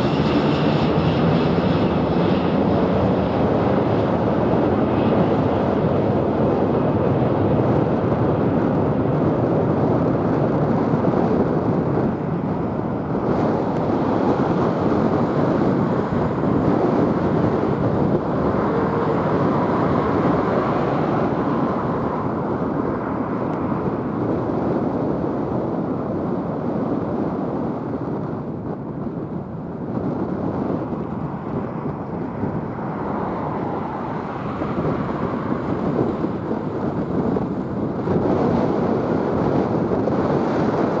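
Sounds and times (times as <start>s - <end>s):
jet engine deep rumble: 0.0s - 41.0s.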